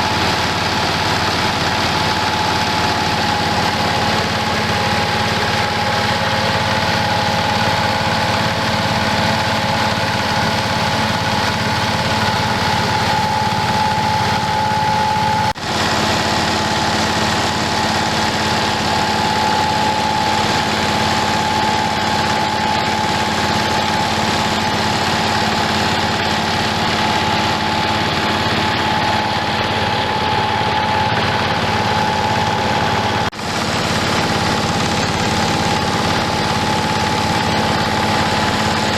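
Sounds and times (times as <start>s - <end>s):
milling machine hum and whine: 0.0s - 38.9s.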